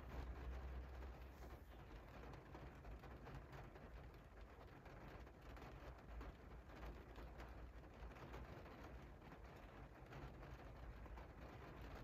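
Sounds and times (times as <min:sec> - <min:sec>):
rain on a window: 0:00.0 - 0:12.0
raindrop ticks: 0:00.0 - 0:12.0.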